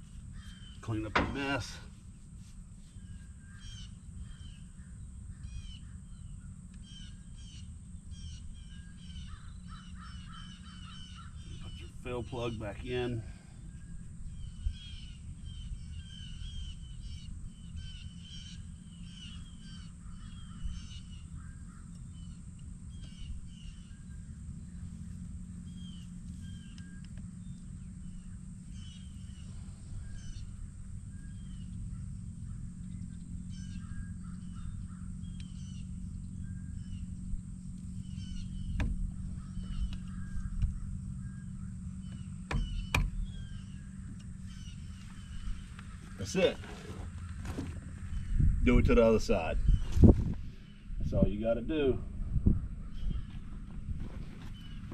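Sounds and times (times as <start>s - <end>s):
birds calling harshly: 0.0s - 54.9s
steady low rumble: 0.0s - 54.9s.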